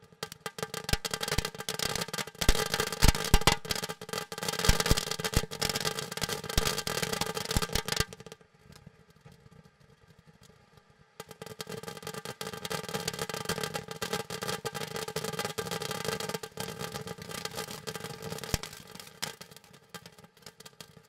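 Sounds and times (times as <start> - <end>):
firework crackling and popping: 0.0 - 21.0.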